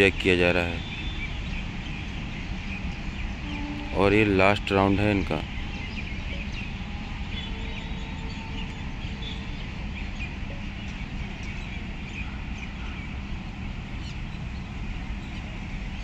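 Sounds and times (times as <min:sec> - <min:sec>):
faint bird chirps: 0:00.6 - 0:15.9.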